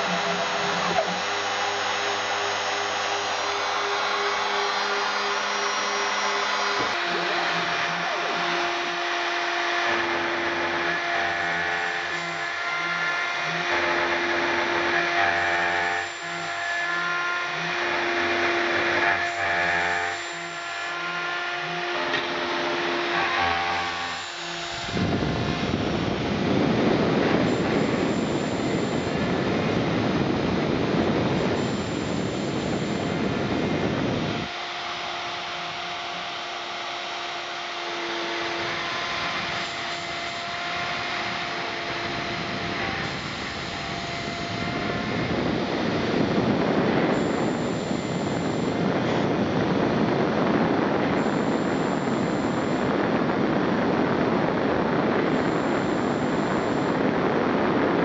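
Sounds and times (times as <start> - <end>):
milling machine spindle whine: 0.0 - 58.0.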